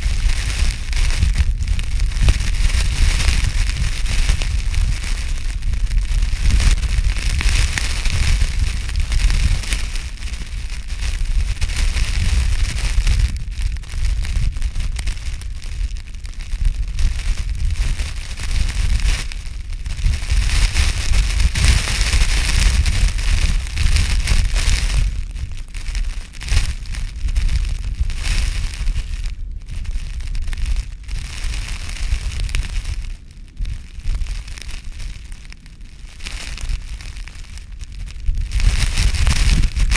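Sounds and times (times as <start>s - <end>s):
wind buffeting microphone: 0.0s - 39.9s
wind-driven snow hissing: 0.0s - 39.9s.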